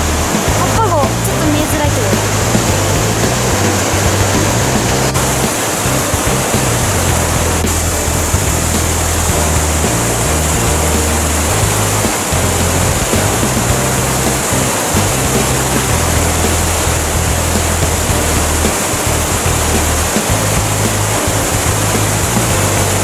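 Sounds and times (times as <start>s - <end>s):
background music with bass notes: 0.0s - 23.0s
waterfall roaring: 0.0s - 23.0s.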